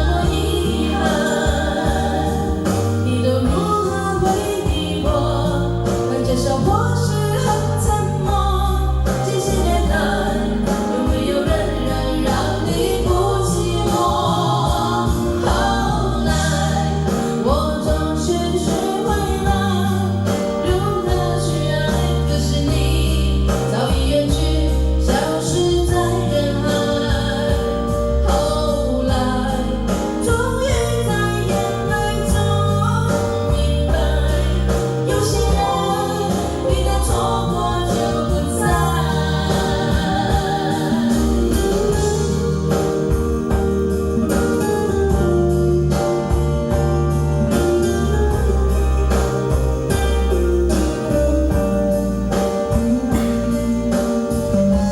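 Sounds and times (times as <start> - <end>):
karaoke backing track with bass: 0.0 - 54.9
person singing: 0.0 - 54.9.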